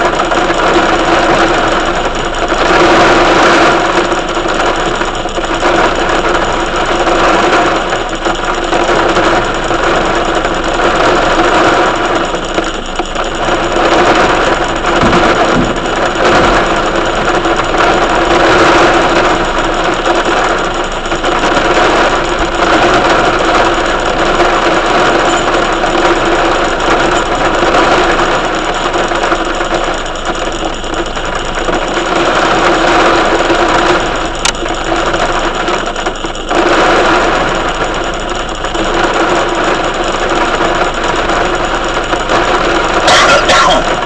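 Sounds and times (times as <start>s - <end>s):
heavy rain drumming on hard surface: 0.0s - 44.0s.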